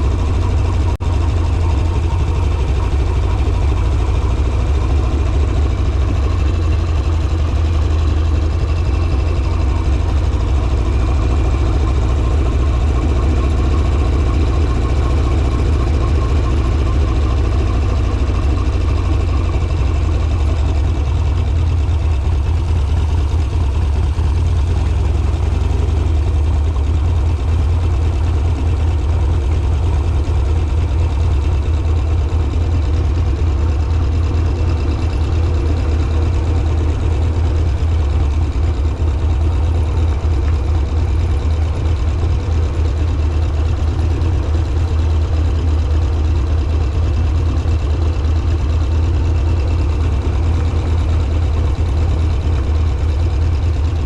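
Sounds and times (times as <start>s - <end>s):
motorcycle engine running at low revs: 0.0s - 54.0s.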